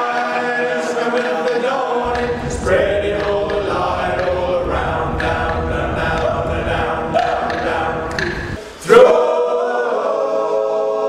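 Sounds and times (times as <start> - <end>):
men singing a cappella harmony: 0.0 - 11.0.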